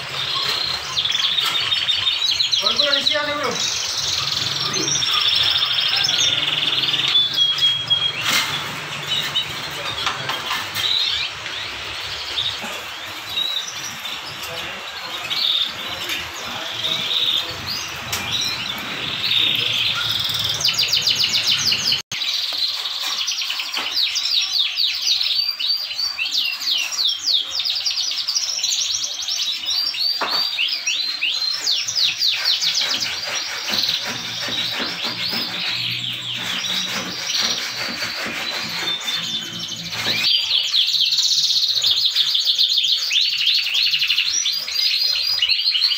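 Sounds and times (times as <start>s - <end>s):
canaries singing trills: 0.0s - 45.9s.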